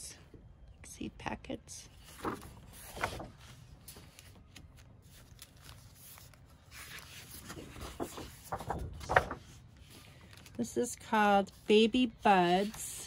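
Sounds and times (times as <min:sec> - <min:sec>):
paper sheets rustling and sliding: 0:01.9 - 0:13.0.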